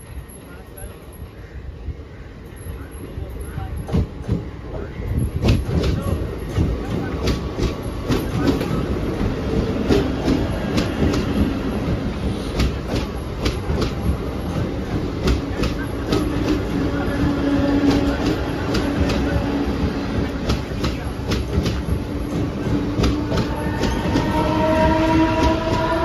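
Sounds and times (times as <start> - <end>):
electric train rumbling on rails: 0.0 - 26.0.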